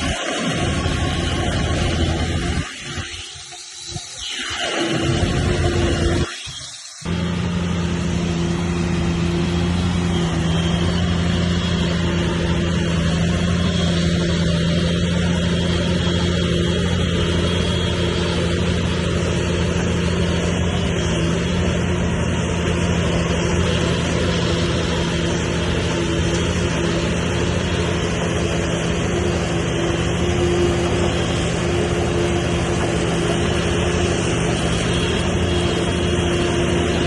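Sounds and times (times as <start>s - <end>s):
heavy diesel engine running: 0.0s - 3.4s, 5.0s - 6.2s, 7.0s - 37.0s.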